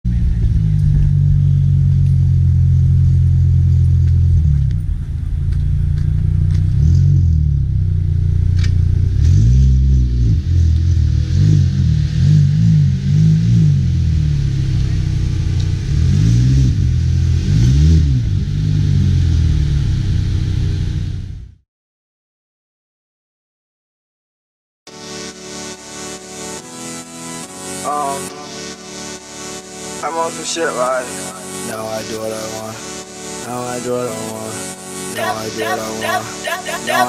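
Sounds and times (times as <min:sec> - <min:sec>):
car engine idling and revving: 0:00.0 - 0:21.6, 0:25.8 - 0:36.2.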